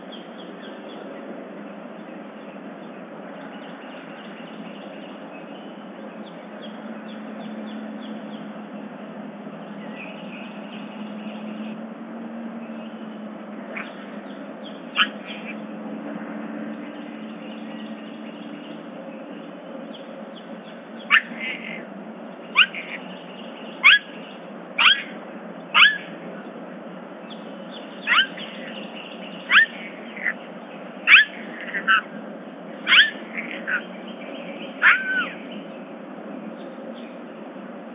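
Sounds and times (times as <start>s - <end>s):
steady background hiss: 0.0s - 37.9s.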